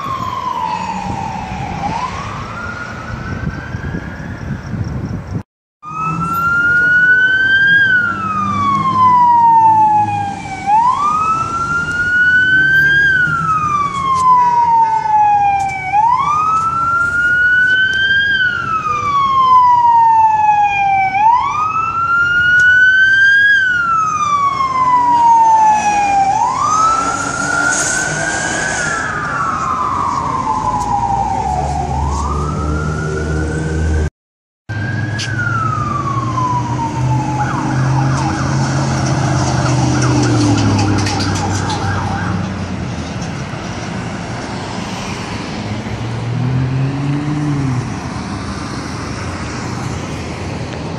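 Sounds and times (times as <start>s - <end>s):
emergency siren wailing: 0.0s - 4.7s, 5.8s - 34.1s, 34.7s - 50.7s
traffic noise: 0.0s - 34.1s, 34.7s - 50.9s.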